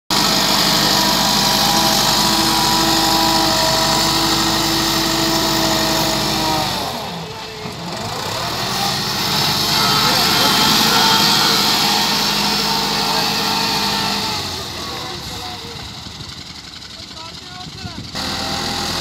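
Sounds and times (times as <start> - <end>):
diesel tractor engine running hard: 0.1 - 19.0.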